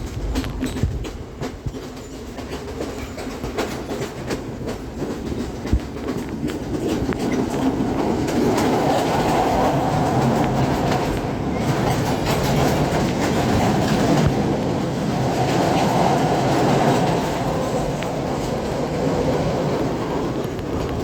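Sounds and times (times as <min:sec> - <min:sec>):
train wheels clicking on rails: 0:00.0 - 0:21.0.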